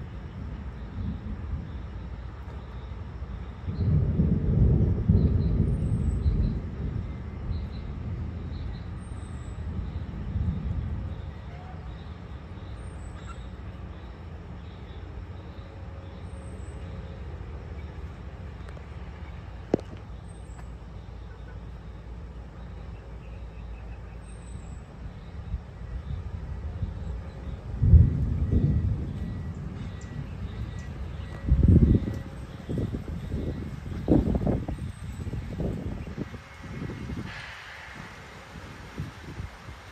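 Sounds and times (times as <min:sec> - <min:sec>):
thunder rumbling: 0:00.0 - 0:20.3, 0:24.8 - 0:39.9.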